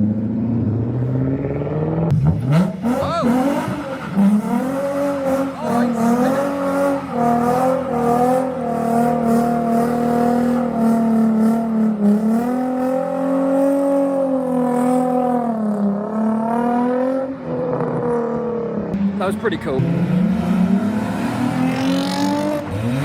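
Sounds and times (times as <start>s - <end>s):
car engine revving high: 0.1s - 23.0s.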